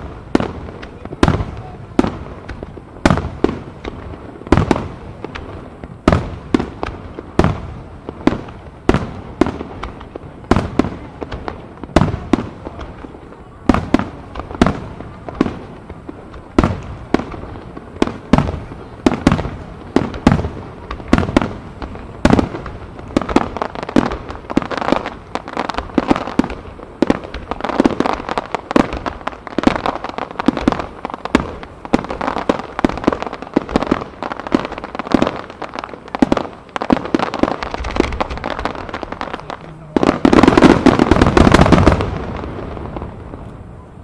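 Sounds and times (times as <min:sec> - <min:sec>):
fireworks crackle: 0:00.0 - 0:44.0.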